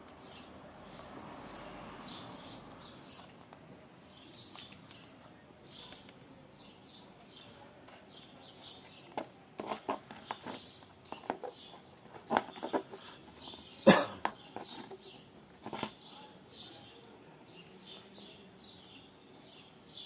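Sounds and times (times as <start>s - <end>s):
faint bird chirping: 0.2s - 20.0s.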